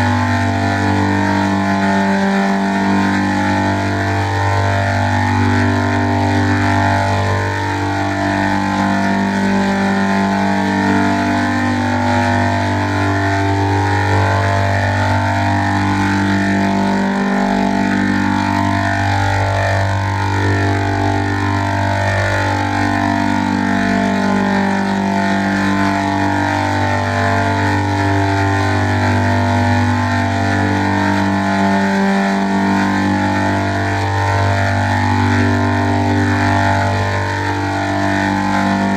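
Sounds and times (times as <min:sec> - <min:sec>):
loud low distorted buzz: 0:00.0 - 0:38.9.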